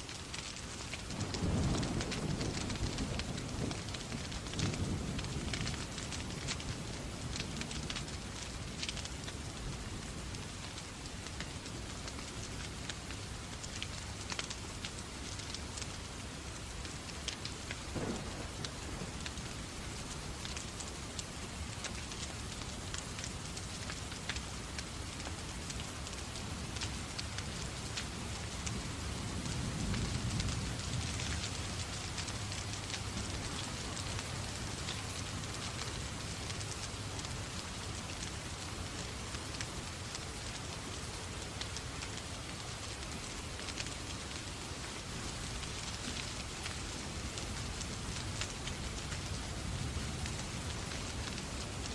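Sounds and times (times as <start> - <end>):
rain with sharp ticks: 0.0 - 51.9.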